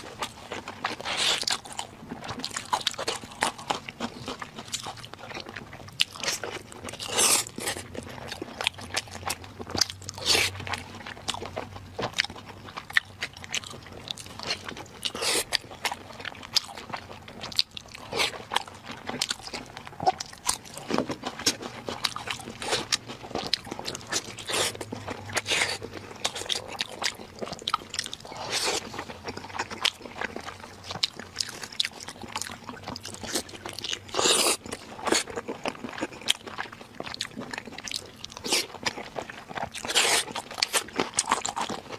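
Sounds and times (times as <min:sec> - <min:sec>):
person chewing and crunching food: 0:00.0 - 0:41.9.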